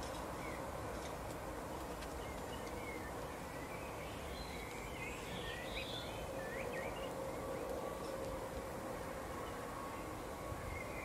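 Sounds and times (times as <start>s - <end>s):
outdoor background noise: 0.0s - 11.0s
songbirds twittering: 0.0s - 11.0s.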